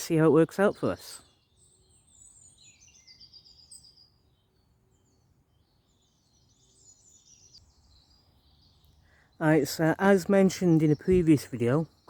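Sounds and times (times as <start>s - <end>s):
songbird trilling: 0.0s - 12.0s.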